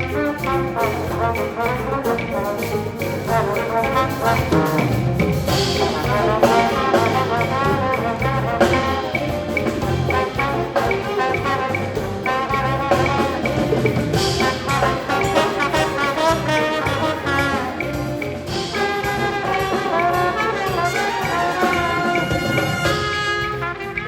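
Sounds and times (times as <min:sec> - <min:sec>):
brass jazz ensemble swing: 0:00.0 - 0:24.0.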